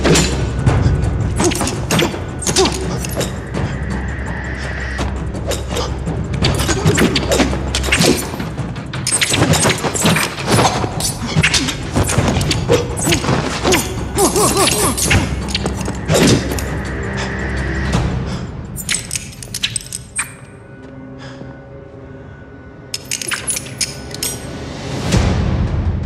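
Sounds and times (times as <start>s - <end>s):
film music score: 0.0s - 26.0s.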